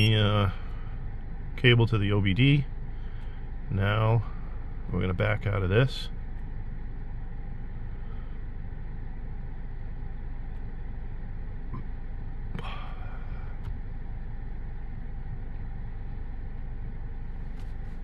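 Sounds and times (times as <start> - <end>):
low rumble inside car: 0.0 - 18.0.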